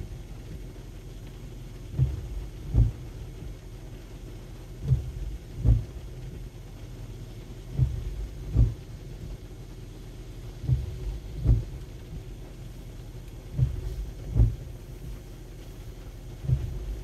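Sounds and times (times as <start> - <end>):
steady low rumble: 0.0 - 17.0
windshield wiper thuds: 0.0 - 17.0.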